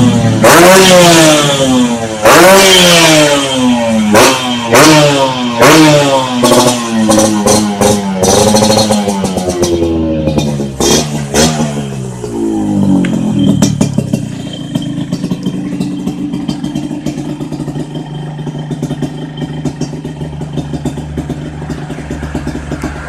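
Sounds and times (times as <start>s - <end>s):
two-stroke motorcycle engine idling: 0.0s - 23.0s.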